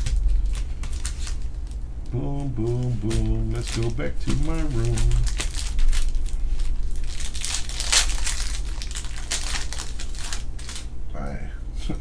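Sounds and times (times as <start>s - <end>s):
pack wrappers tearing and crinkling: 0.0s - 10.9s.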